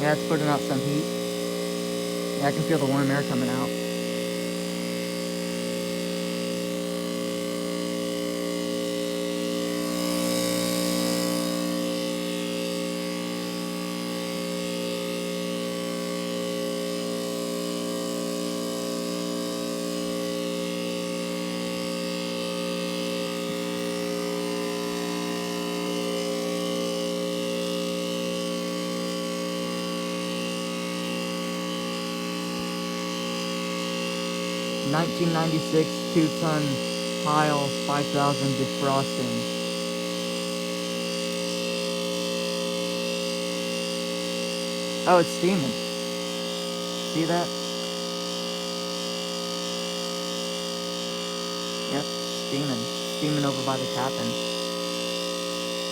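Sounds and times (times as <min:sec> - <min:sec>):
heat pump humming: 0:00.0 - 0:55.9.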